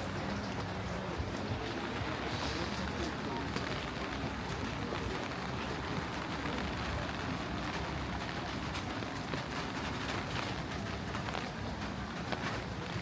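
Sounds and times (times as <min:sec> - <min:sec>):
rain falling on street: 0:00.0 - 0:13.0.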